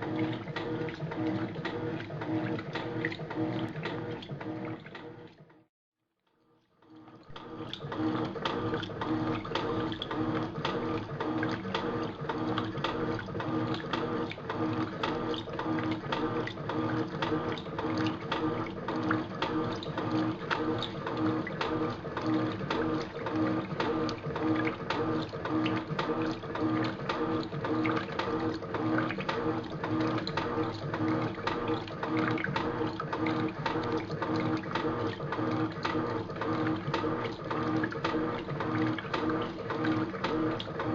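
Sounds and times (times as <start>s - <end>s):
washing machine motor hum: 0.0s - 5.7s, 6.8s - 40.9s.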